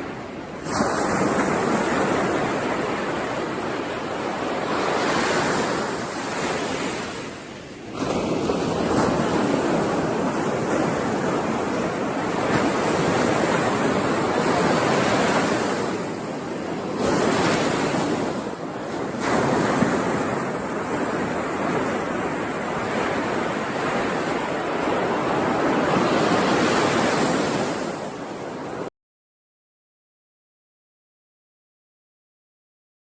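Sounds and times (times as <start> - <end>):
ocean waves washing ashore: 0.0 - 28.9.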